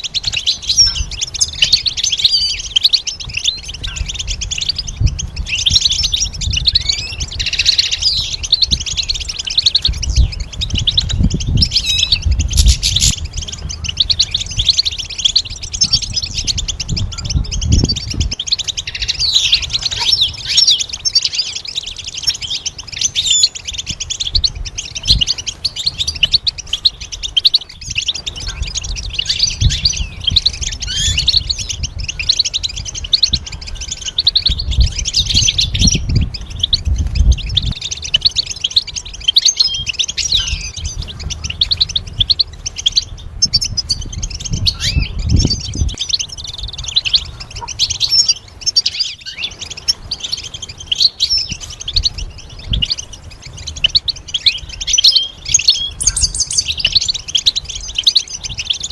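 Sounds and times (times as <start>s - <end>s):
goldfinch twittering song: 0.0s - 58.9s.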